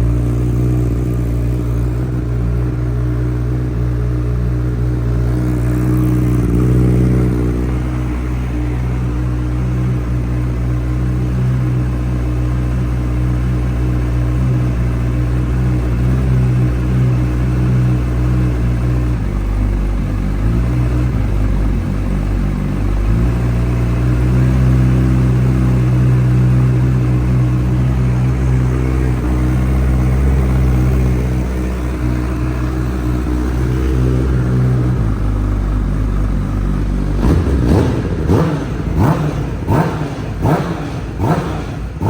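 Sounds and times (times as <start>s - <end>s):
motorcycle engine idling: 0.0s - 42.0s.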